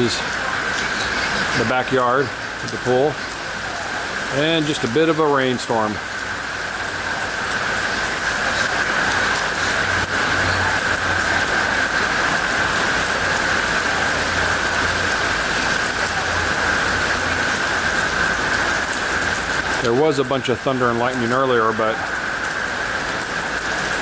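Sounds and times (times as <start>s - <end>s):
rain pouring down: 0.0s - 24.0s.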